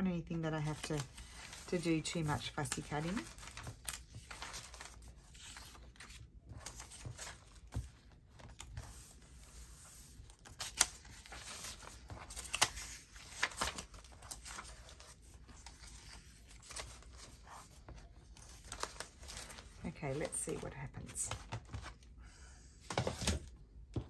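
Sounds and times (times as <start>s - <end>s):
paper rustling and crinkling: 0.6s - 22.1s.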